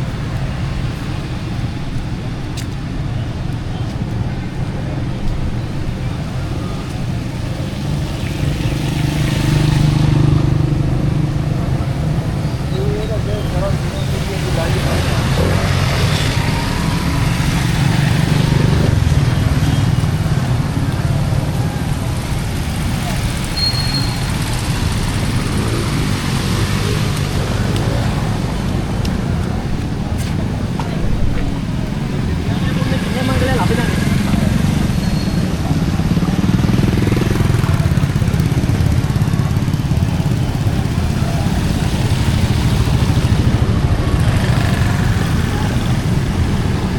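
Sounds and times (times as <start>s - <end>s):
traffic noise: 0.0s - 46.9s.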